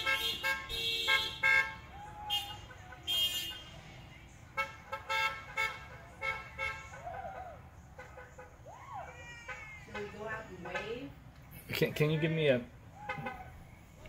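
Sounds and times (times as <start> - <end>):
car horns honking: 0.0 - 8.8, 9.4 - 11.2, 12.6 - 13.8.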